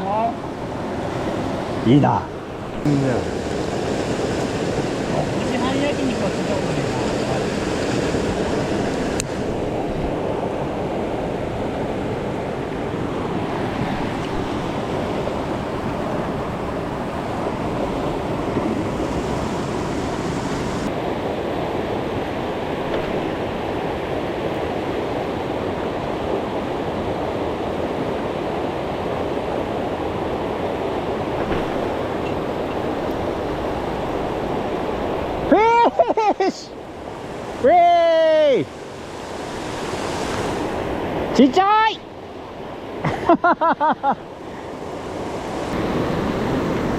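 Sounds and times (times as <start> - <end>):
stream rushing over rocks: 0.0 - 26.4, 27.0 - 43.0.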